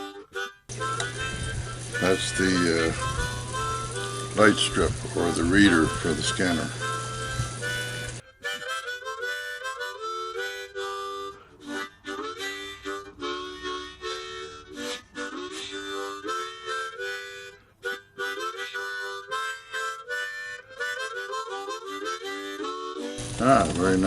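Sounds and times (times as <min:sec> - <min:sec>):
harmonica playing quick melody: 0:00.0 - 0:24.0.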